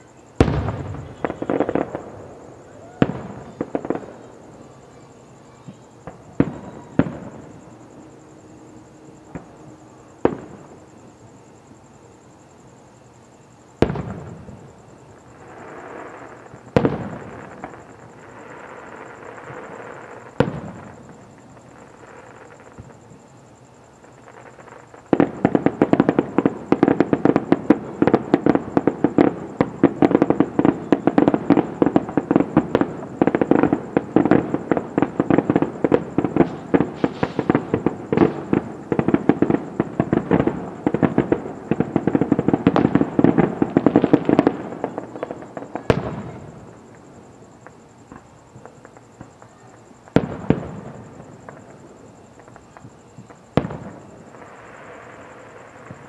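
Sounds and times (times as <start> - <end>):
fireworks crackling bangs: 0.0 - 11.4, 12.7 - 56.0
firework booms: 0.3 - 8.5, 9.2 - 11.0, 13.7 - 23.3, 23.9 - 56.0.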